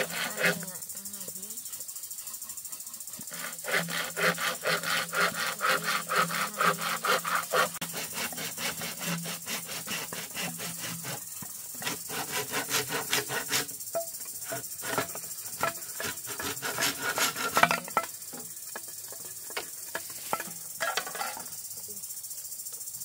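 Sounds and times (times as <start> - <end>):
knife scraping bamboo: 0.0 - 0.7, 2.4 - 21.6.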